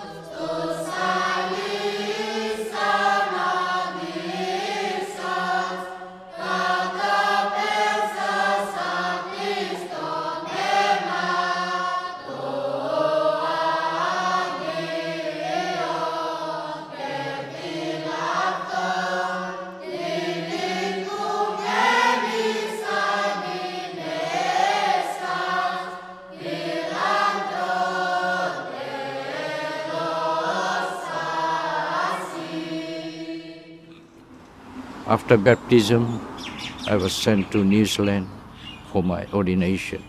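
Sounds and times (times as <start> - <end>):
choir chanting: 0.0 - 37.8.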